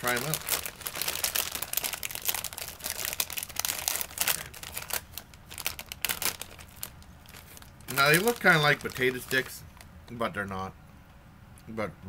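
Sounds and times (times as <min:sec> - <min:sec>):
plastic snack bag crinkling: 0:00.0 - 0:09.9.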